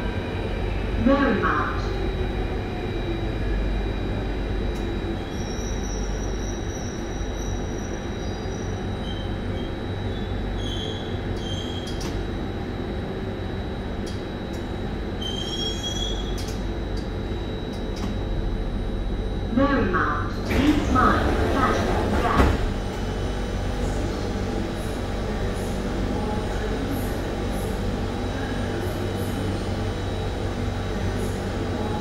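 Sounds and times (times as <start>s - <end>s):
metro train rumbling: 0.0s - 32.0s.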